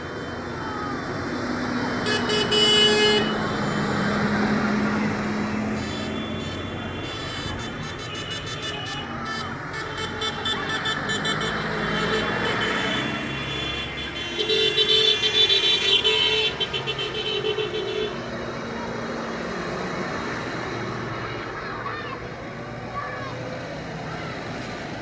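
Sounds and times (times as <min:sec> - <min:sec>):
tractor engines running: 0:00.0 - 0:25.0.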